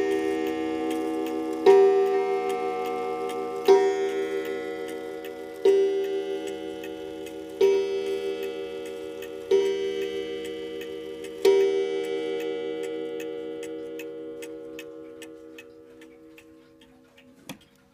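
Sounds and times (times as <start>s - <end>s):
clock striking: 0.0s - 17.9s
clock ticking: 0.0s - 17.9s.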